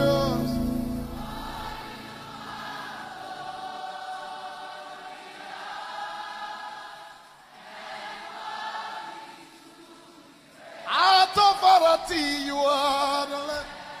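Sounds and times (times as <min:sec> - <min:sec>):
congregation singing unaccompanied: 0:00.0 - 0:14.0.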